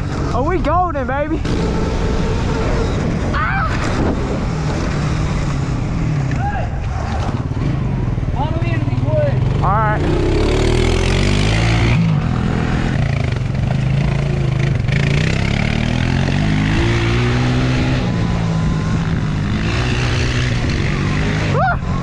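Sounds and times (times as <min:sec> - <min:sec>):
wind and rolling noise: 0:00.0 - 0:22.0
small off-road engine revving: 0:01.3 - 0:22.0.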